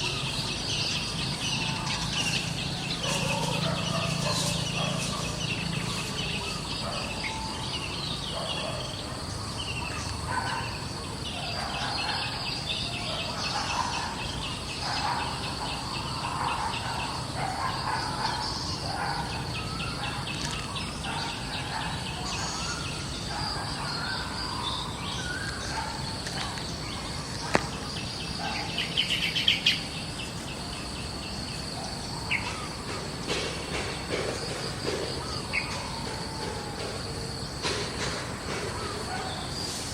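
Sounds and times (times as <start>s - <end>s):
birds chirping: 0.0s - 39.9s
insects buzzing: 0.0s - 39.9s.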